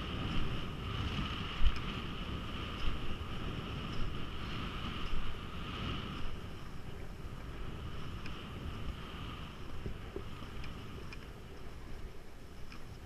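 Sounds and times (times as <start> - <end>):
skis hissing over snow: 0.0 - 11.9
wind on microphone: 0.0 - 13.0.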